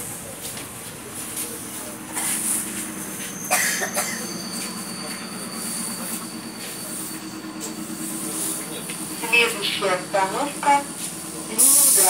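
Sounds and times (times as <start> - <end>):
high steady whine: 0.0 - 12.0
train equipment hum: 0.0 - 12.0.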